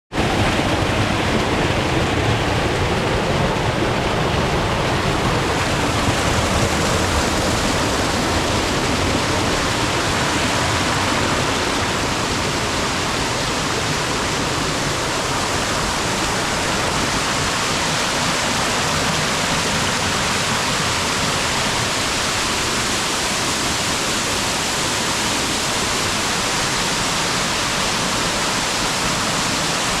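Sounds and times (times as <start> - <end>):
rushing water: 0.1 - 30.0.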